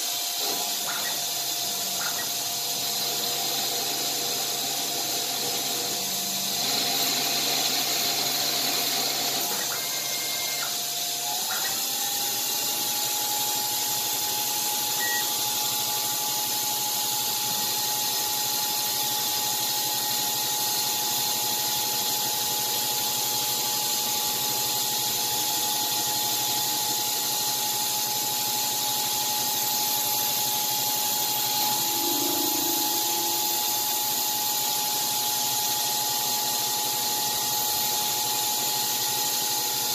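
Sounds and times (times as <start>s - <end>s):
lathe cutting noise: 0.0s - 39.9s
metal lathe whine: 0.0s - 39.9s.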